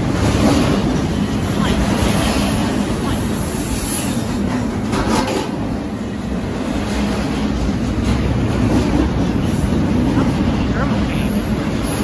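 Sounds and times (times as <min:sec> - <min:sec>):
freight train wheels rumbling: 0:00.0 - 0:12.0
train clatter: 0:00.0 - 0:12.0.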